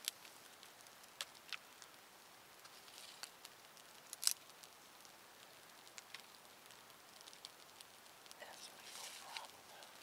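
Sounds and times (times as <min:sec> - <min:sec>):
campfire crackling: 0:00.0 - 0:10.0
sharp fire pops: 0:00.0 - 0:10.0.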